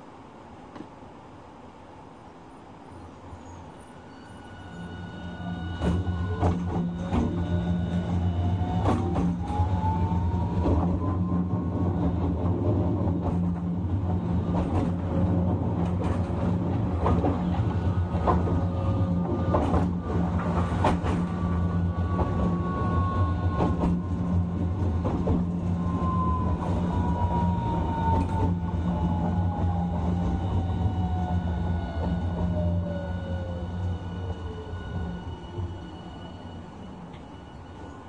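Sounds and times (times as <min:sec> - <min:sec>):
tram hum: 0:00.0 - 0:38.0.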